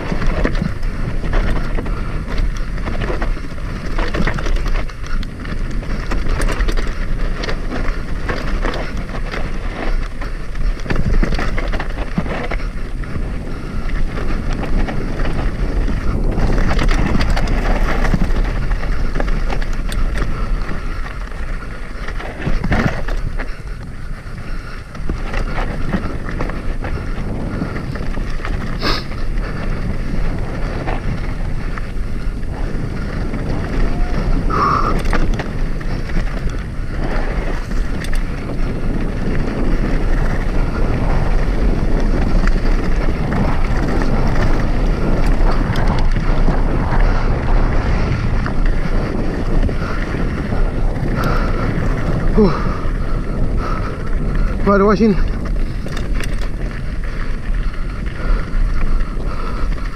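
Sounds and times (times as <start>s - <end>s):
bike frame and chain rattling: 0.0s - 59.9s
wind buffeting microphone: 0.0s - 59.9s.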